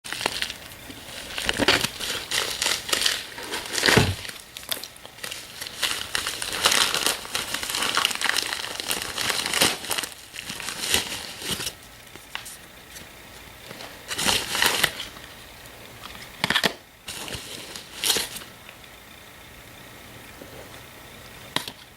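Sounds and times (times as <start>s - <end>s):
packaging crinkling by hand: 0.1s - 18.6s.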